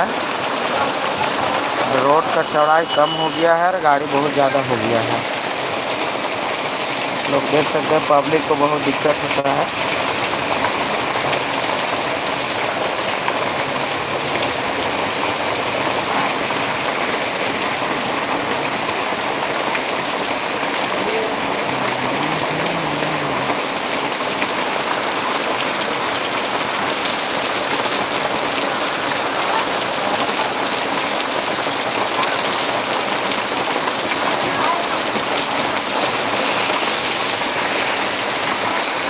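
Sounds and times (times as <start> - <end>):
heavy rain on a road: 0.0 - 39.0.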